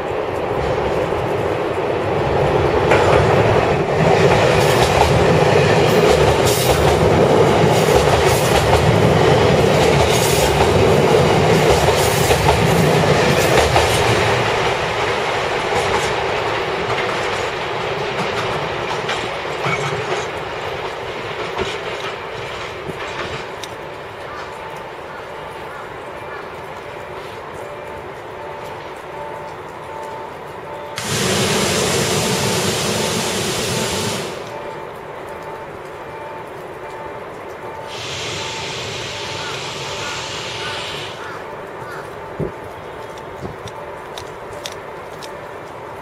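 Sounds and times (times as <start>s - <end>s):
train wheels clacking on rails: 0.0s - 45.7s.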